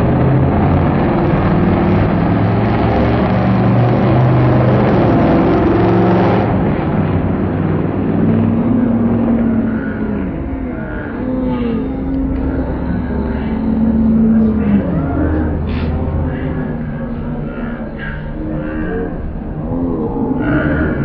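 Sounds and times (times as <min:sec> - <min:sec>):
race car engines at full throttle: 0:00.0 - 0:21.0.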